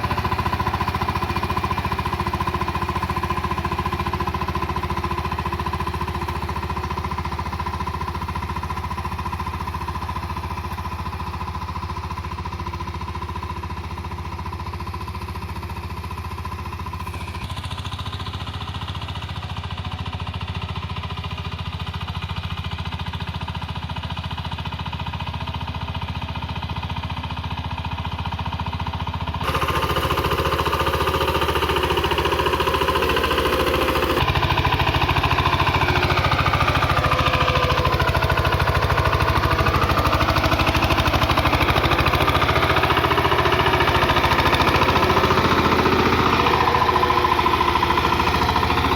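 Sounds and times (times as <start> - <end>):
diesel engine running: 0.0 - 21.6, 27.9 - 48.9.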